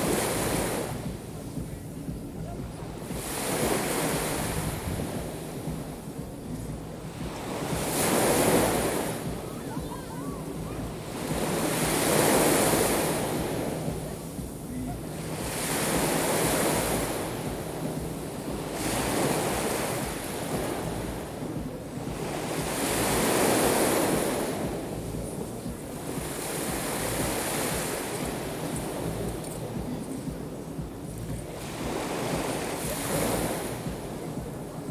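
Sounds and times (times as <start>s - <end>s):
waves breaking on shore: 0.0s - 34.9s
wind buffeting microphone: 0.0s - 34.9s.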